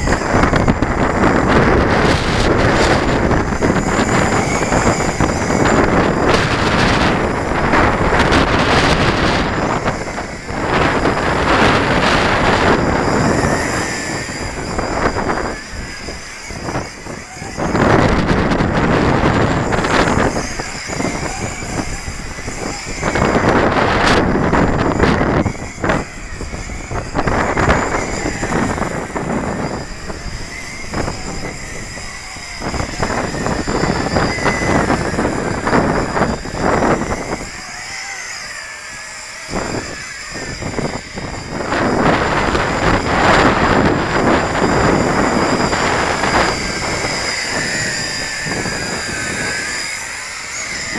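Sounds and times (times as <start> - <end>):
drone motors whining: 0.0 - 50.9
wind buffeting microphone: 0.0 - 50.9.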